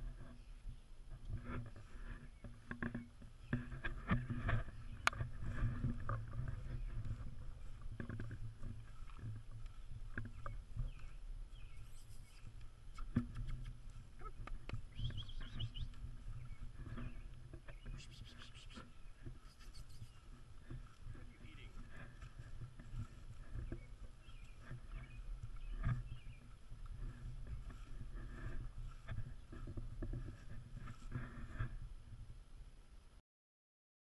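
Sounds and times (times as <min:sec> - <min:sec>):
grass rustling: 0:00.0 - 0:32.4
wind rumbling on microphone: 0:00.0 - 0:33.2.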